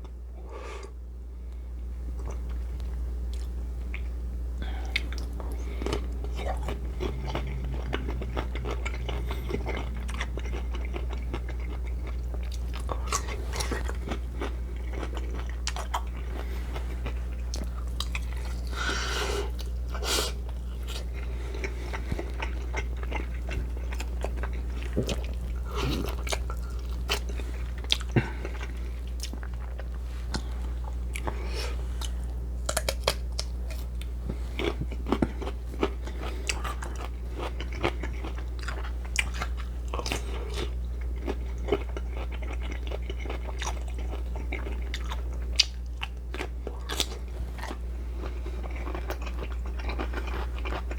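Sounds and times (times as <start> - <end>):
chewing and crunching food: 2.1 - 50.9.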